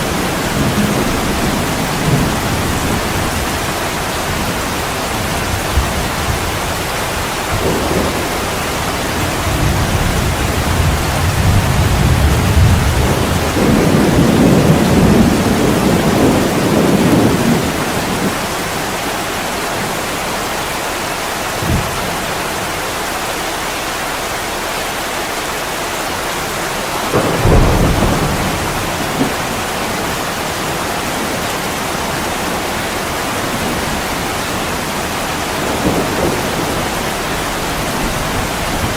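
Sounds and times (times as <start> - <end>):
thunder rumbling: 0.0 - 22.7, 26.2 - 38.9
heavy rain falling: 0.0 - 38.9.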